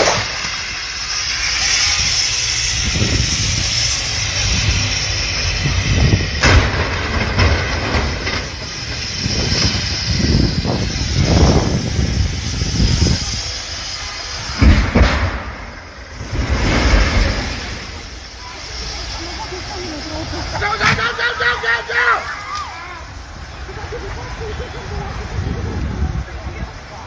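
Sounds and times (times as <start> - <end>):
highway traffic rumble and hiss: 0.0 - 27.0.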